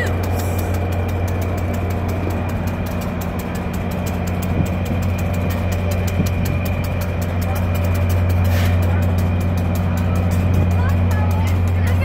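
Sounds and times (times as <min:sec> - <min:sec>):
locomotive engine idling: 0:00.0 - 0:12.0.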